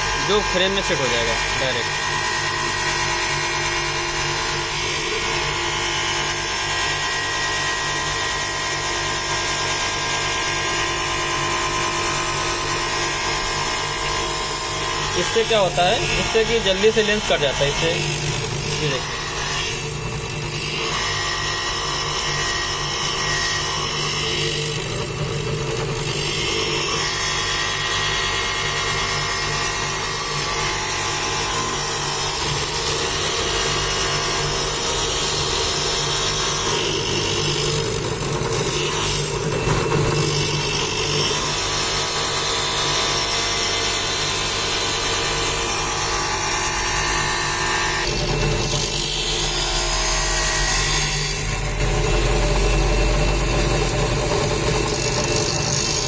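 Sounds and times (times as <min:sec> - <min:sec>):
machine motor running: 0:00.0 - 0:56.0.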